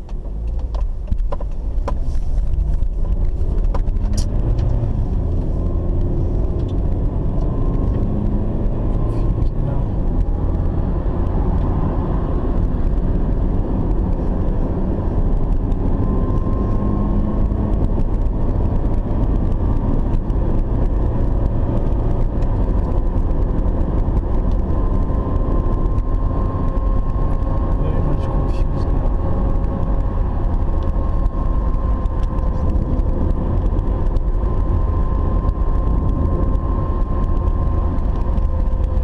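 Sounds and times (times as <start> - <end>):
car engine drone: 0.0 - 39.0
tyres on tarmac: 0.0 - 39.0.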